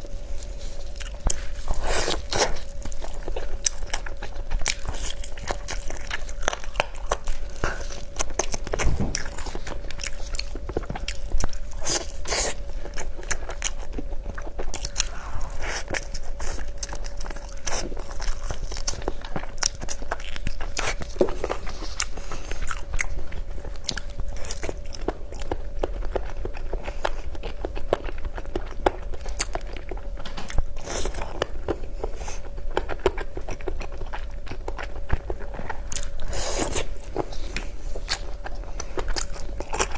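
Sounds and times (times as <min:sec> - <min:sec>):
faint steady hum: 0:00.0 - 0:39.9
person chewing crunchy food: 0:00.0 - 0:39.9.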